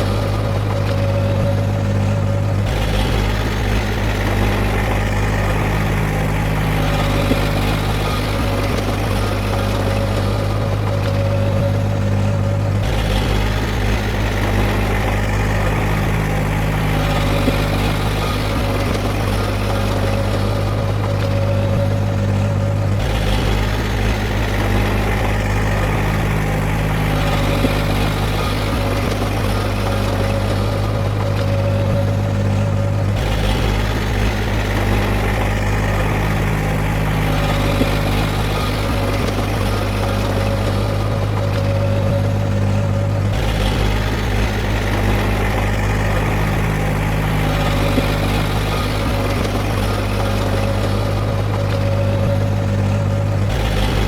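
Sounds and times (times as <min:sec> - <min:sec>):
heavy machinery diesel engine: 0:00.0 - 0:54.0.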